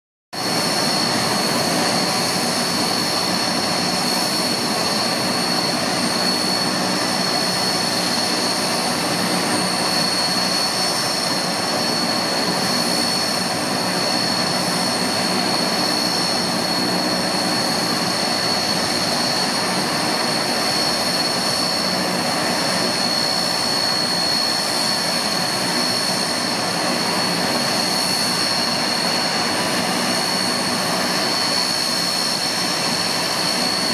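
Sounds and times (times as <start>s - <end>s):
propeller drone: 0.4s - 33.9s
turbine whine: 0.4s - 33.9s
turboprop engines running: 0.4s - 33.9s.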